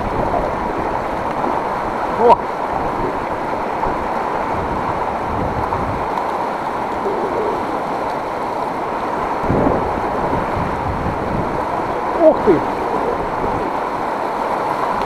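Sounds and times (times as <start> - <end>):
river water rushing over rapids: 0.0 - 15.0
wind on microphone: 0.0 - 15.0.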